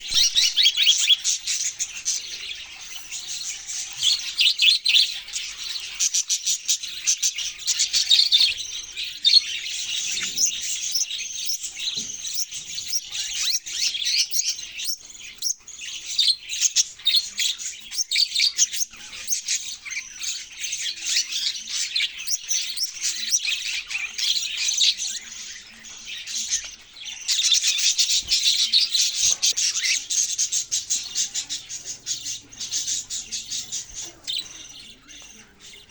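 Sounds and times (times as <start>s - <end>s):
budgerigars chirping: 0.0s - 35.9s.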